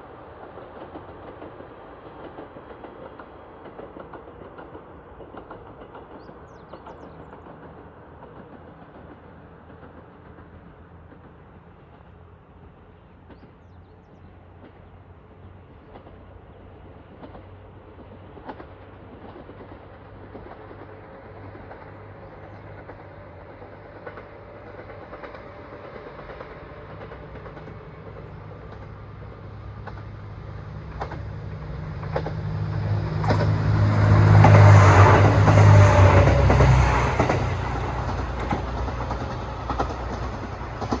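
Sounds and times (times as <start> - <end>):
diesel railcar engine hum: 0.0 - 41.0
train wheels clickety-clack: 0.0 - 41.0.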